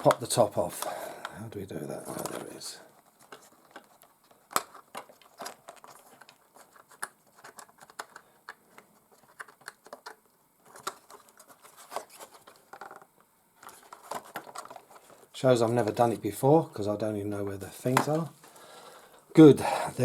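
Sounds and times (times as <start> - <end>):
hands handling plastic body: 0.0 - 16.2, 17.8 - 18.6.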